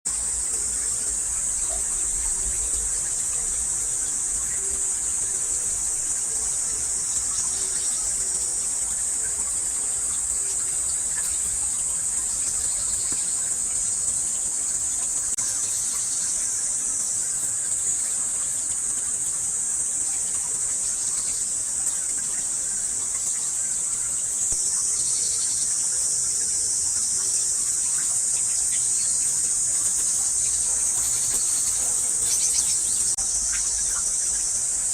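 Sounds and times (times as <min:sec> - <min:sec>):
shrill insect chorus: 0:00.1 - 0:34.9.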